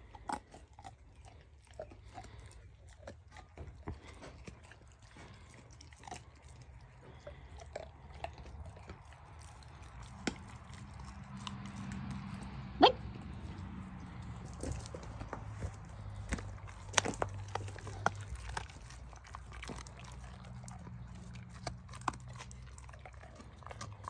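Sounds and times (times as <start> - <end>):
dog chewing meat: 0.0 - 24.0.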